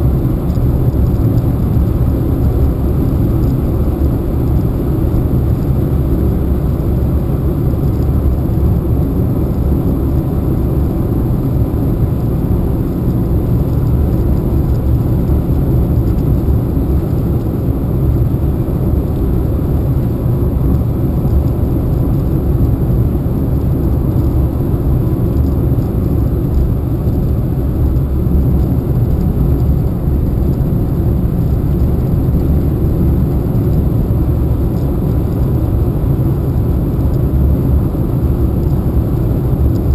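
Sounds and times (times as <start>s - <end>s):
car interior road rumble: 0.0s - 39.9s.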